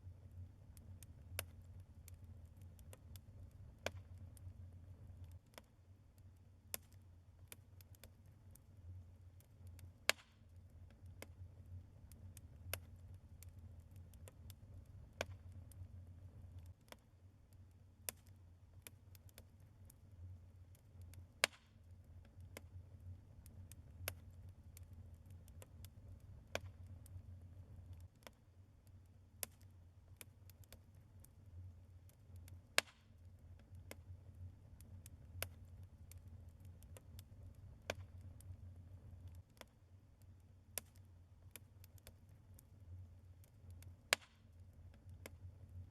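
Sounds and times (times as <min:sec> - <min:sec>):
logs crackling in a fireplace: 0:00.0 - 0:45.9
low rumble of fire: 0:00.0 - 0:45.9.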